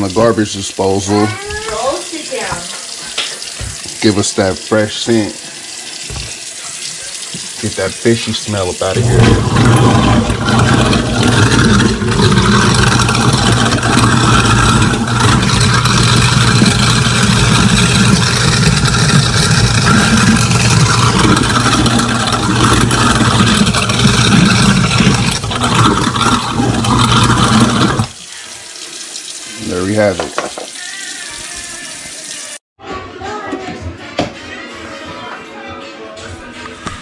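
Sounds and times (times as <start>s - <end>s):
garbage disposal motor hum: 0.0s - 31.6s
tap water running: 0.0s - 32.6s.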